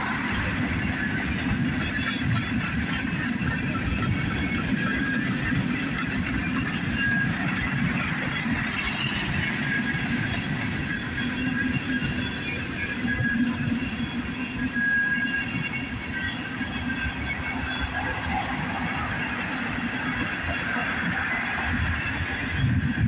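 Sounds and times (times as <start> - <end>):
high-pitched wheel squeals: 0.0 - 23.0
train wheels rumbling and clattering: 0.0 - 23.0.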